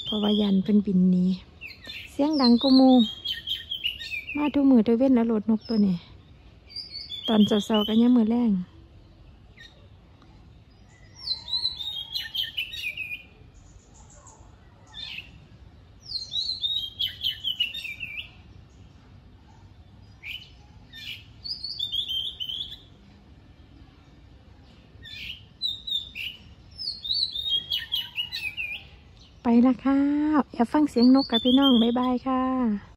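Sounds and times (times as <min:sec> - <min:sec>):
songbird singing: 0:00.0 - 0:32.9.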